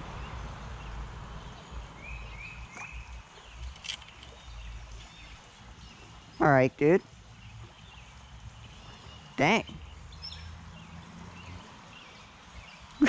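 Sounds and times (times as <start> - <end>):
stream running over riffles: 0.0 - 13.0.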